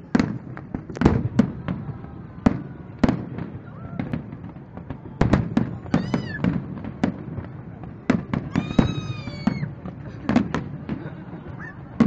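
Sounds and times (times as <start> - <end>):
fireworks bangs with echoes: 0.0 - 12.0.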